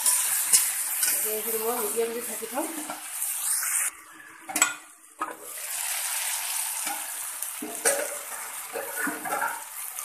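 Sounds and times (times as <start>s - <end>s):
vegetables sizzling in a wok: 0.0s - 10.0s.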